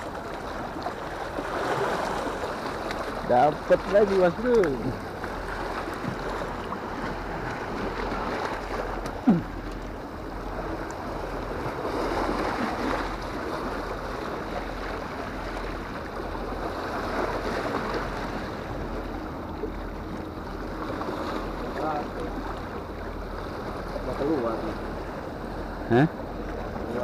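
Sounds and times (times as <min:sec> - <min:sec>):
waves washing over rocks: 0:00.0 - 0:09.4, 0:10.2 - 0:19.3, 0:20.5 - 0:24.8.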